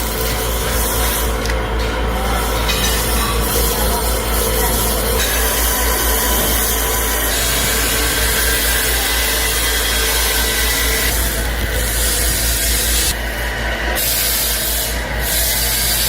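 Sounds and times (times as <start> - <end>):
power tool working on metal: 0.0 - 16.0.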